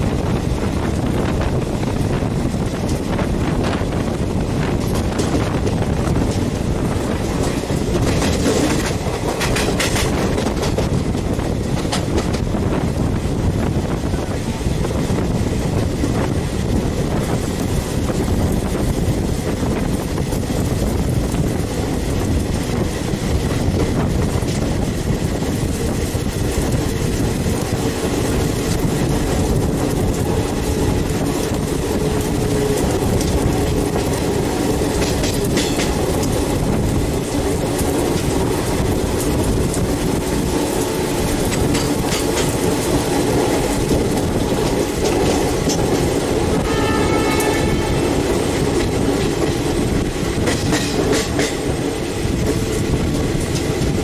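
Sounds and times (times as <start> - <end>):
clickety-clack over rail joints: 0.0 - 54.0
rushing air: 0.0 - 54.0
train wheels rumbling on rails: 0.0 - 54.0.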